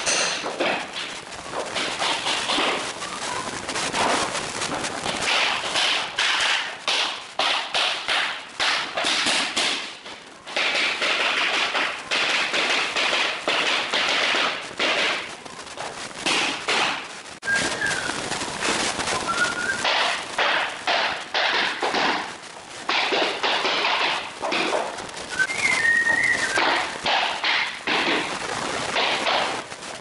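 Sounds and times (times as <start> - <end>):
hammer knocking floor planks: 0.0 - 3.0, 4.0 - 17.1, 19.8 - 25.0, 26.1 - 29.6.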